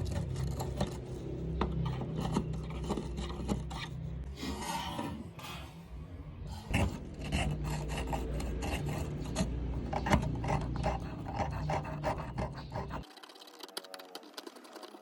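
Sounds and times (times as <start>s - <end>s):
hand scraping rusty metal: 0.0s - 5.8s, 6.6s - 13.0s
steady low hum: 0.0s - 13.0s.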